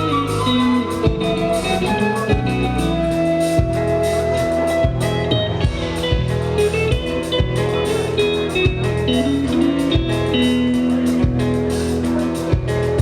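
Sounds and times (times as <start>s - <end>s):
bass guitar: 0.0s - 13.0s
drums keeping a steady beat: 0.0s - 13.0s
guitar sustained bending notes: 0.0s - 13.0s.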